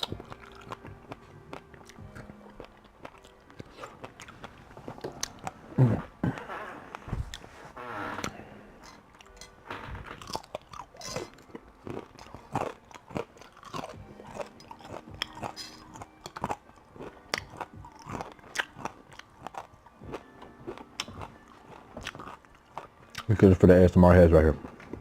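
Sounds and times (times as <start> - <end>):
person chewing crunchy food: 0.0 - 7.5, 10.1 - 23.3.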